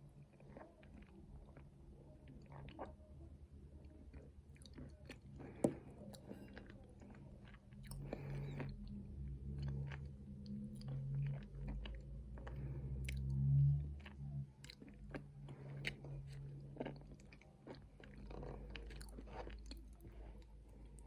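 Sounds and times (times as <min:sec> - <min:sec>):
chewing with crunches: 0:00.0 - 0:21.0
low steady hum: 0:00.0 - 0:21.0.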